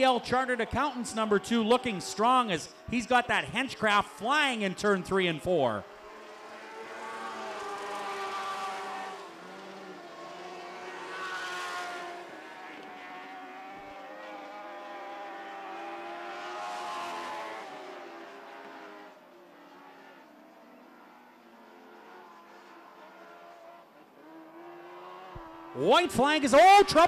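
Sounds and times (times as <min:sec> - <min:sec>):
racing car engines revving: 0:00.0 - 0:27.0.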